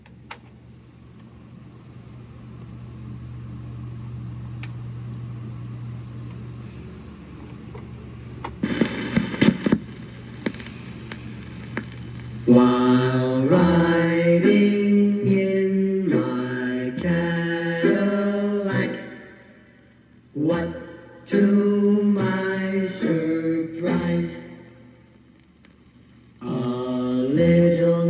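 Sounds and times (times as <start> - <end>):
vinyl crackles and pops: 0.0 - 1.4, 2.4 - 15.7, 19.7 - 28.0
record hum and hiss: 0.0 - 28.0.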